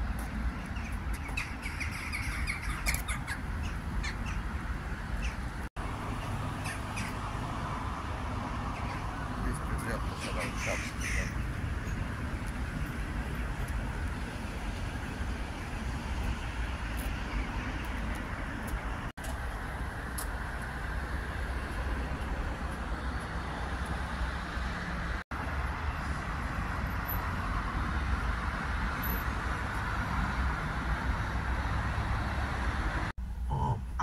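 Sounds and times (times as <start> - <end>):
cars passing on road: 0.0 - 34.0.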